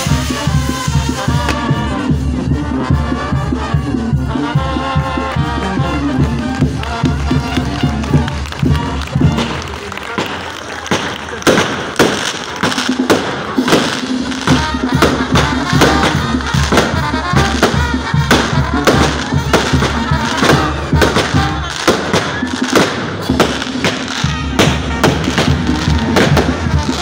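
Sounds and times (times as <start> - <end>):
fireworks bangs and crackles: 0.0 - 27.0
music: 0.0 - 27.0.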